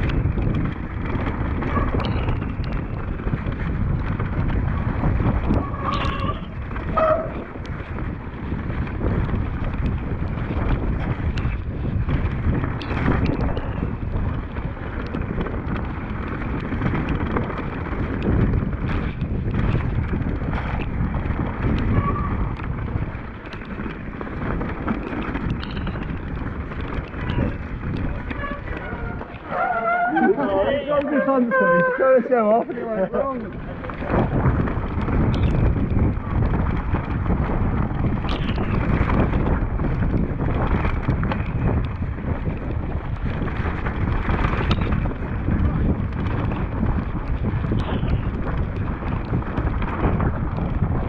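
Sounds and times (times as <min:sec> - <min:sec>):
bike tyres rolling on gravel: 0:00.0 - 0:51.0
stones and bike rattling: 0:00.0 - 0:51.0
wind buffeting microphone: 0:00.0 - 0:51.0.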